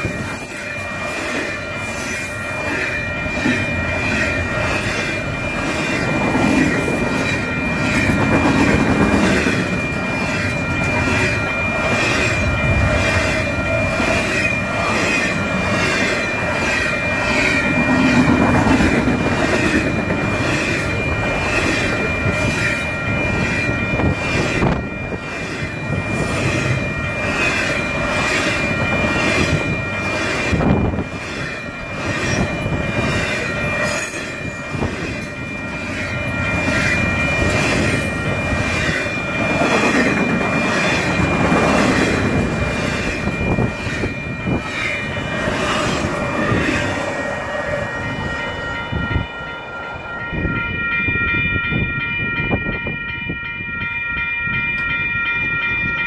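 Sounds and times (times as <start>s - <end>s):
freight train rumbling past: 0.0s - 53.8s
crossing bell ringing: 0.0s - 56.0s.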